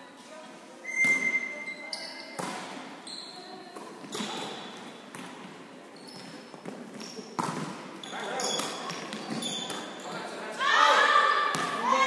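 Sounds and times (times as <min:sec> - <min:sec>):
volleyball hits in echoing hall: 0:00.8 - 0:12.0.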